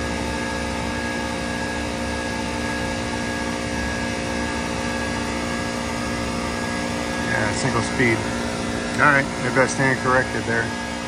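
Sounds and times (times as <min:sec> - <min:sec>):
chiller machine hum with tones: 0:00.0 - 0:11.0
condenser fans rushing: 0:00.0 - 0:11.0.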